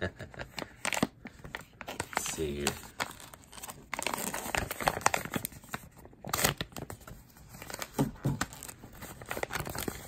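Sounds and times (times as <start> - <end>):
plastic bag crinkling: 1.7 - 10.0.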